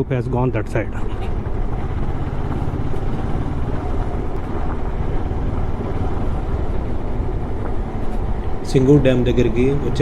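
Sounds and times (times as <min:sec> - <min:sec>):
motorcycle engine running: 0:00.9 - 0:10.0.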